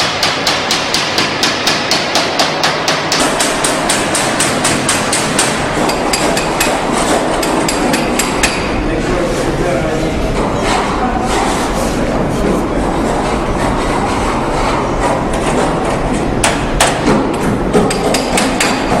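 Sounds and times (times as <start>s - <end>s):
workshop din: 0.0s - 19.0s.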